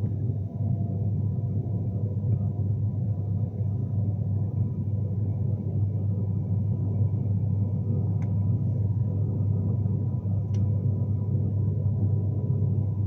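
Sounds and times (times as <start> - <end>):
train interior rumble: 0.0 - 11.2
faint steady hum: 0.0 - 13.0.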